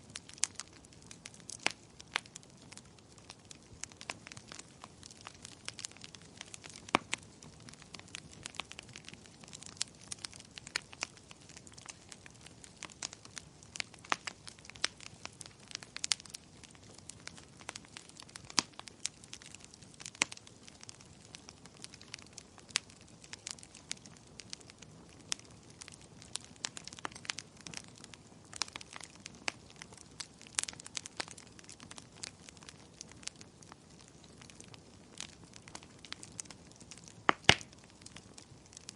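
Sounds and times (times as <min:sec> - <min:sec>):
wood fire crackling: 0:00.0 - 0:38.9
sharp pops of fire: 0:00.1 - 0:38.9.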